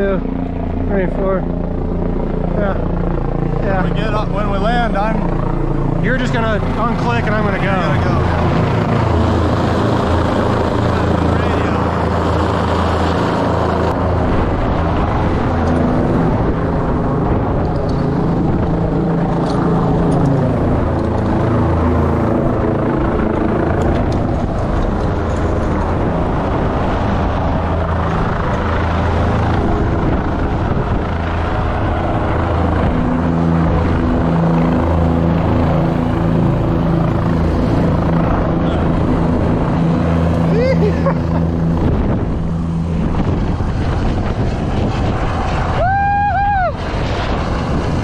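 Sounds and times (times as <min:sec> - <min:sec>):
helicopter hovering overhead: 0:00.0 - 0:48.0.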